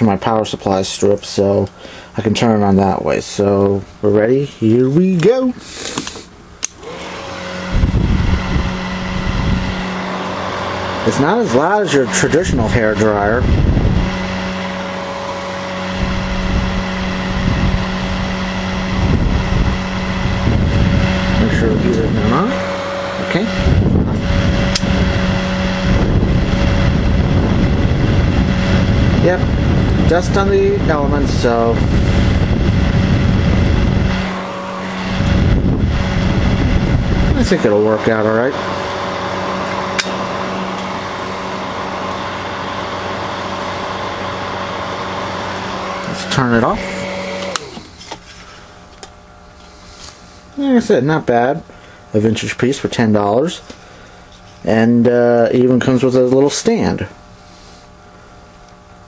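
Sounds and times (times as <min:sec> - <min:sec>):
hair dryer running: 0:04.8 - 0:59.0.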